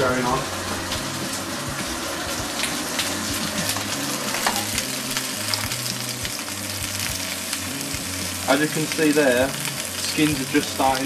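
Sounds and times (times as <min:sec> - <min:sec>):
peppers sizzling in oil: 0:00.0 - 0:11.0.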